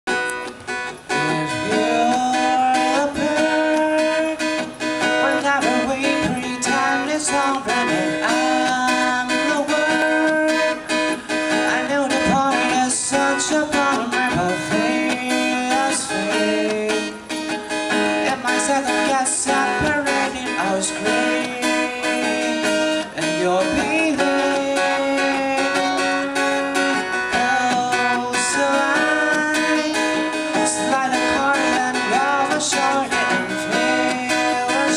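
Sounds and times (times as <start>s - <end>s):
acoustic guitar strummed and plucked: 0.1s - 34.9s.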